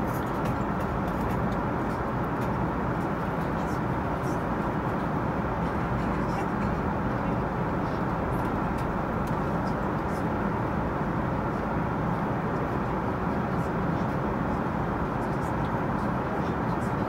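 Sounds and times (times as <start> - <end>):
airliner cabin engine and airflow noise: 0.0 - 17.0.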